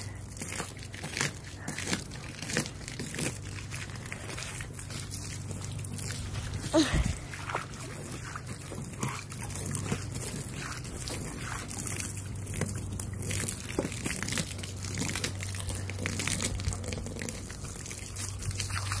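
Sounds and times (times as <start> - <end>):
hose water splashing on wooden deck: 0.0 - 19.0.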